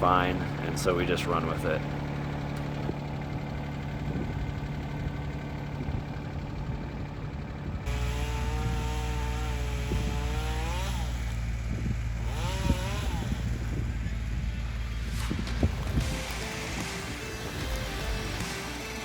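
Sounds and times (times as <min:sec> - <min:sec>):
engine revving: 0:00.0 - 0:19.0
machinery engines running: 0:00.0 - 0:19.0.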